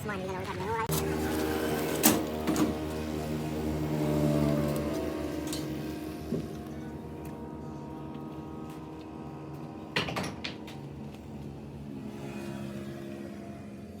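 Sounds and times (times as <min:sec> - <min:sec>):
engine running at low revs: 0:00.8 - 0:14.0.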